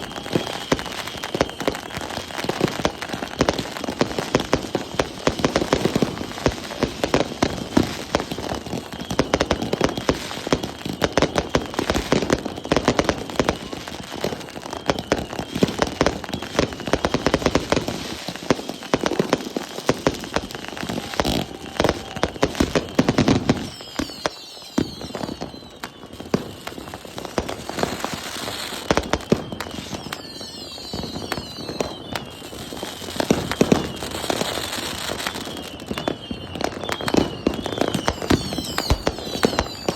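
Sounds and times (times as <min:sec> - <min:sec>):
firework whistles: 0:00.0 - 0:39.9
fireworks crackling and banging: 0:00.0 - 0:39.9.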